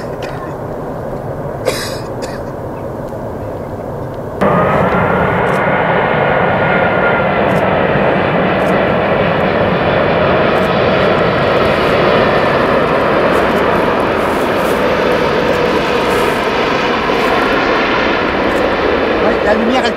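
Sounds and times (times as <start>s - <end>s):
high fan whine: 0.0s - 19.9s
jet airliner engines roaring: 0.0s - 19.9s.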